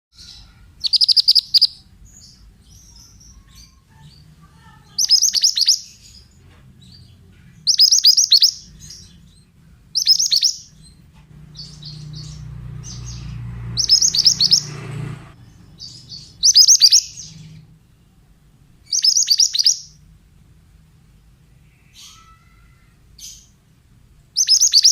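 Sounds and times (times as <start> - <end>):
bird singing phrases: 0.1 - 20.1, 21.1 - 24.9
soft bird chirps: 0.2 - 18.2, 18.8 - 20.1, 21.5 - 23.6, 24.3 - 24.9.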